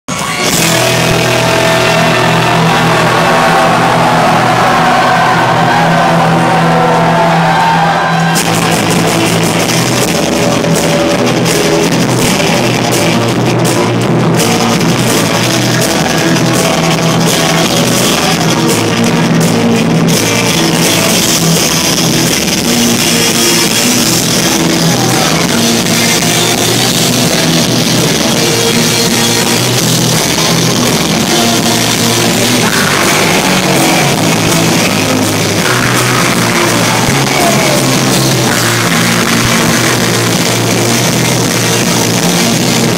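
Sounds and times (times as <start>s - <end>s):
live rock band playing: 0.1s - 42.9s.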